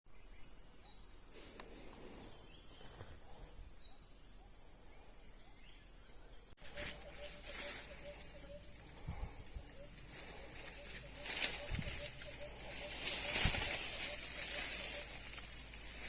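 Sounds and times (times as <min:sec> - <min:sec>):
crickets droning: 0:00.1 - 0:16.0.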